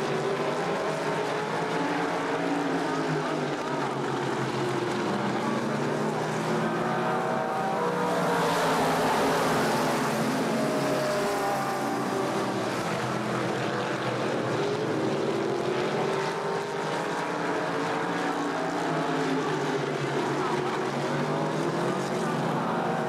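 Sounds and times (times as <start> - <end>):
race car engines roaring past: 0.0 - 23.0.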